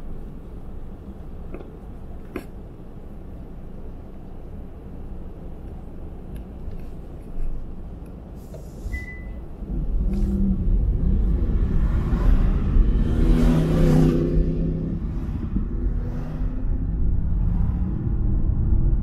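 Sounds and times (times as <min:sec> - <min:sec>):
car road noise: 0:00.0 - 0:19.0
vehicle engine: 0:00.0 - 0:19.0.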